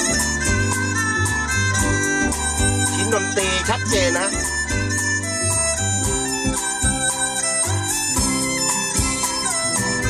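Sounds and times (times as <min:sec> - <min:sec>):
music through car speakers: 0:00.0 - 0:10.0
sliding melody: 0:00.0 - 0:10.0
steady bass line and beat: 0:00.0 - 0:10.0.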